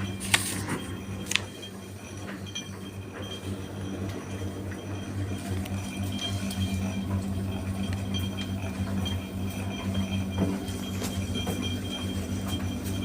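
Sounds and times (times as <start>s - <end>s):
tumble dryer motor hum: 0.0s - 13.0s.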